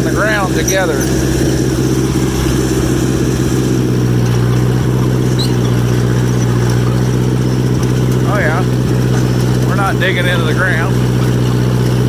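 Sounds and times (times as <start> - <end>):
dozer engine running: 0.0 - 12.0.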